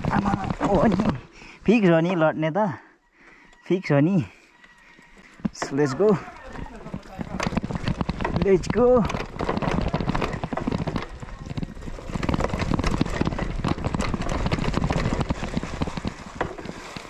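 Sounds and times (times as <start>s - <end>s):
mountain bike clattering: 0.0s - 1.3s, 4.6s - 17.0s.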